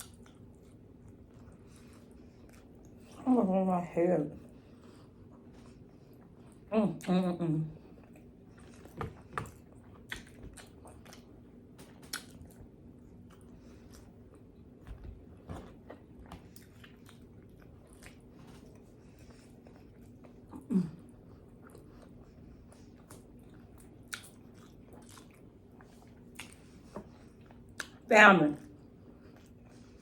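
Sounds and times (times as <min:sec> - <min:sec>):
person chewing pizza: 0:00.0 - 0:03.2, 0:04.4 - 0:30.0.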